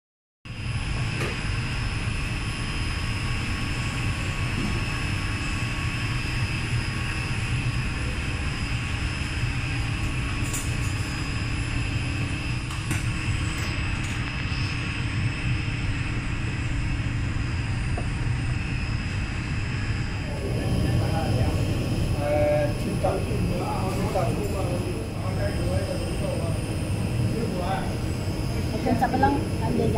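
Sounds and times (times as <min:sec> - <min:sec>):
faint high whine: 0:00.5 - 0:29.9.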